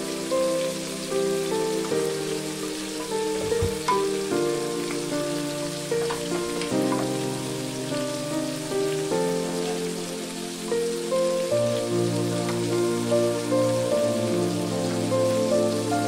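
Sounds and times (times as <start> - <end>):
slow held-note music: 0.0 - 16.0
steady rain-like hiss: 0.0 - 16.0.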